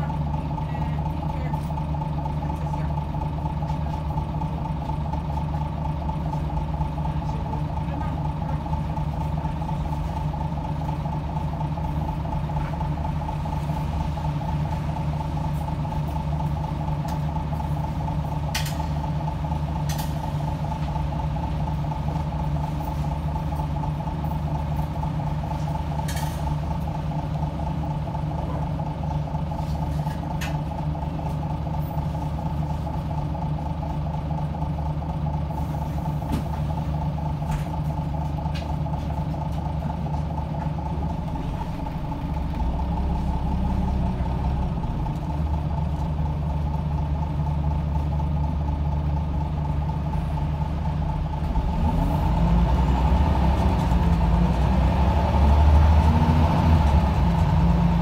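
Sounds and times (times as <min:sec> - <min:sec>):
bus engine humming: 0:00.0 - 0:58.0.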